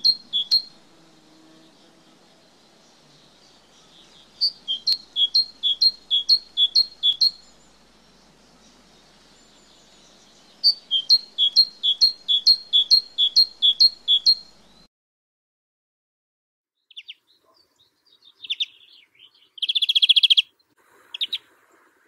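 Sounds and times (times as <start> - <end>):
great tit singing: 0.0 - 14.9, 16.9 - 21.5.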